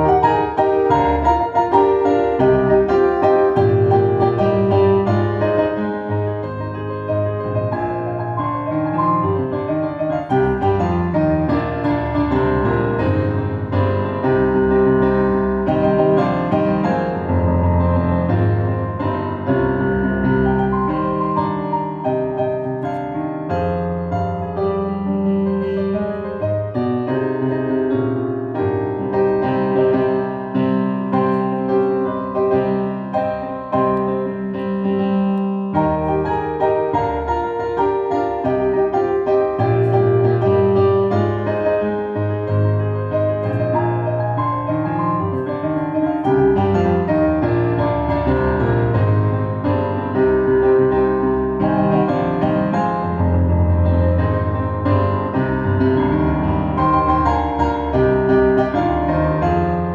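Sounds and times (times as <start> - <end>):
piano playing fast notes: 0.0 - 59.9.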